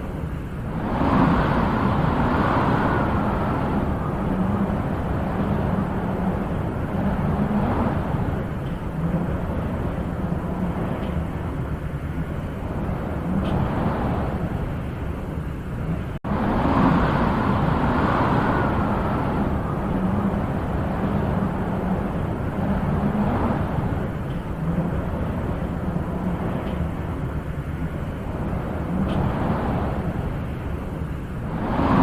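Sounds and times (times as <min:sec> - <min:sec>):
wind blowing in gusts: 0:00.0 - 0:32.0.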